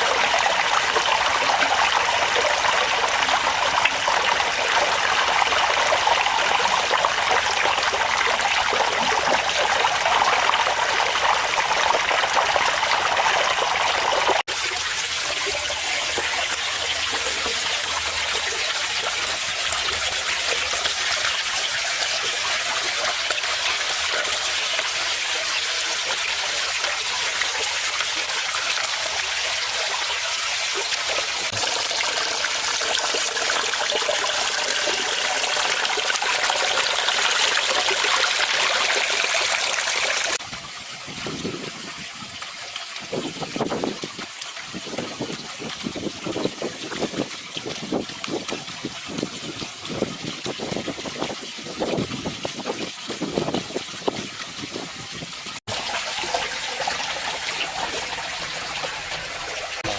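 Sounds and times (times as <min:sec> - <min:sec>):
pond waterfall splashing and trickling: 0:00.0 - 0:59.9.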